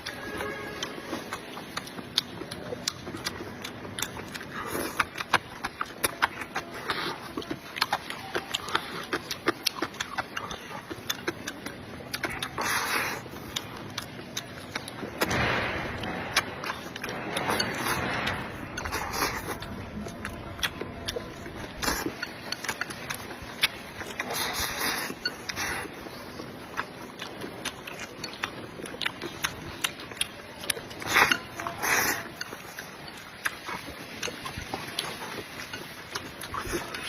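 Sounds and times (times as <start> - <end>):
slurping: 0.0 - 15.2, 16.3 - 37.0
wet chewing smacks: 0.8 - 37.0.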